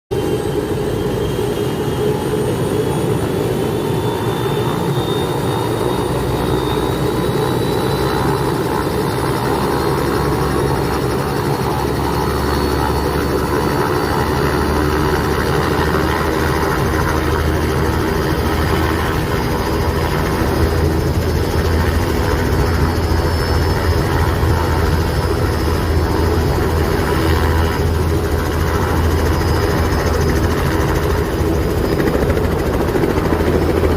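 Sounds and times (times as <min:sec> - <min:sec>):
helicopter engine and rotors: 0:00.1 - 0:33.9
faint high whine: 0:00.2 - 0:33.9.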